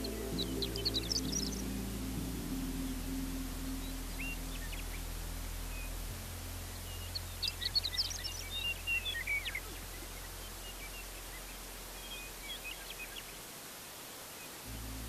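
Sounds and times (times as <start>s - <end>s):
soft background music: 0.0s - 13.4s, 14.6s - 15.0s
steady low hum: 0.0s - 13.5s, 14.6s - 15.0s
songbirds chirping: 0.0s - 15.0s.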